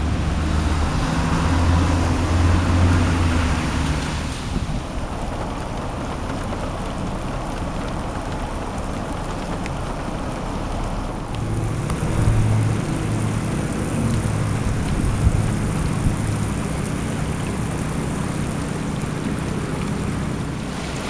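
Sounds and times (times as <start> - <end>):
rain: 0.0 - 21.0
running floodwater: 0.0 - 21.0
vehicle engine hum: 0.0 - 21.0.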